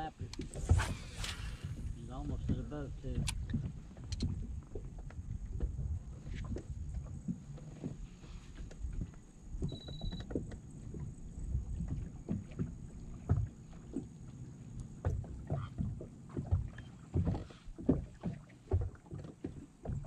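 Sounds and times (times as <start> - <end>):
waves slapping boat hull: 0.0 - 20.0.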